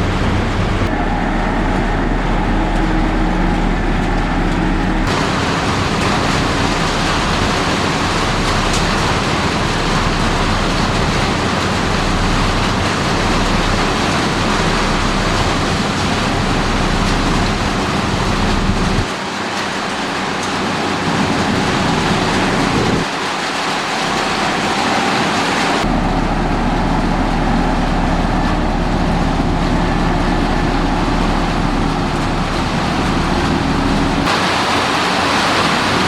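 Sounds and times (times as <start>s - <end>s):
heavy diesel machinery running: 0.0s - 36.0s.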